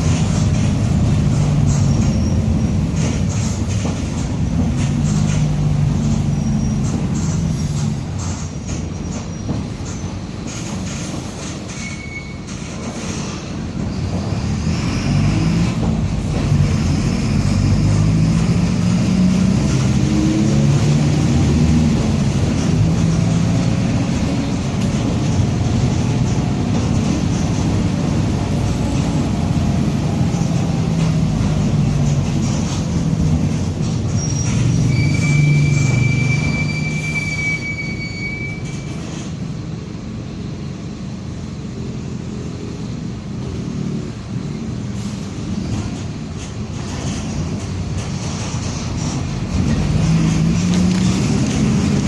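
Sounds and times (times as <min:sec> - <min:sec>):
diesel bus engine: 0:00.0 - 0:52.0.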